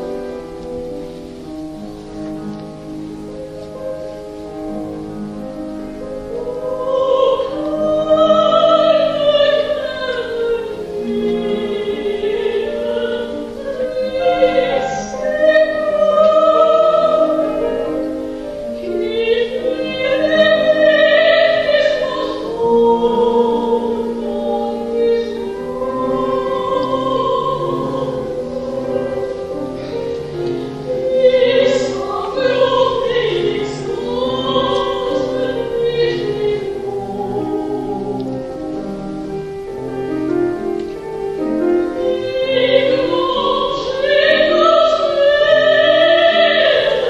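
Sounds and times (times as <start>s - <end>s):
piano accompaniment: 0.0s - 47.0s
woman singing with vibrato: 6.1s - 39.1s, 41.3s - 47.0s.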